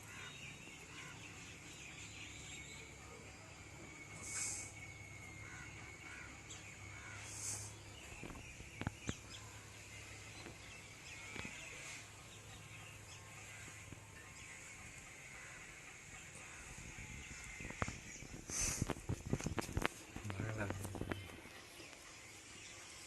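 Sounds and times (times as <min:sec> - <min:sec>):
birds chirping: 0:00.0 - 0:23.0
steady high hiss: 0:00.0 - 0:23.0.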